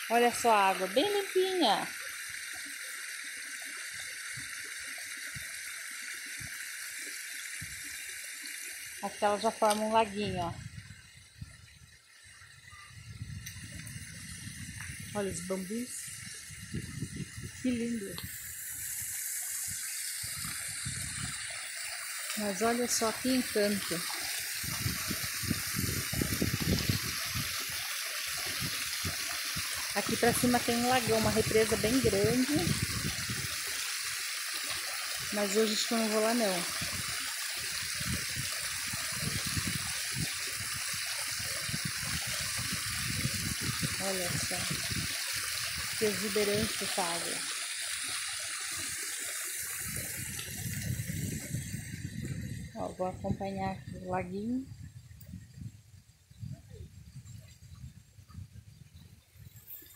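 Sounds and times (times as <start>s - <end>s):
small waterfall rushing: 0.0s - 10.5s, 13.5s - 52.7s.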